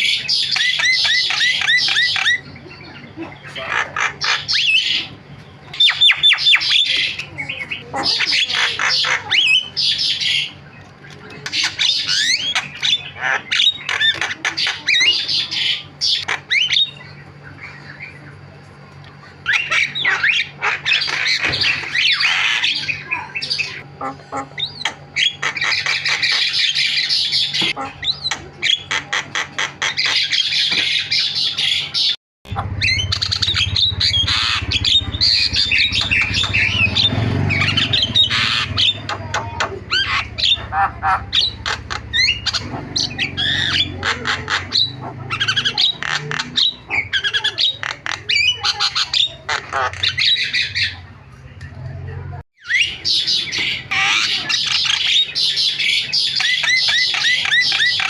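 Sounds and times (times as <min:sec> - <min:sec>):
bird singing chattering song: 0:00.0 - 0:51.1, 0:52.6 - 0:58.0
low steady hum: 0:00.0 - 0:52.4.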